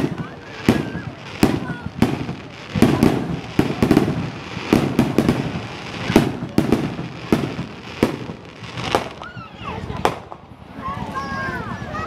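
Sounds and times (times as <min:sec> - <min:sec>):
fireworks bursting with sharp bangs: 0:00.0 - 0:11.1.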